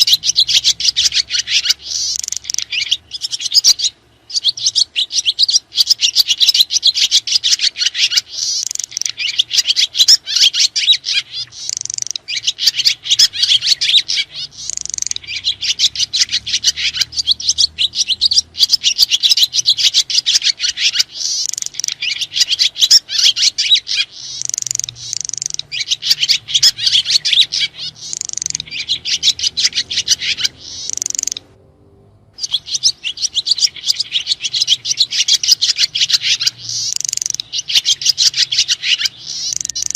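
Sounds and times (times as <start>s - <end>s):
swiftlets twittering: 0.0s - 31.5s, 32.4s - 39.9s.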